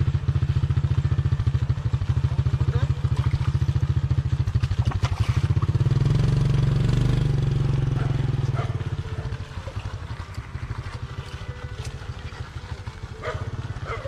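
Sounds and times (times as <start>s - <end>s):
small engine putter: 0.9s - 14.0s.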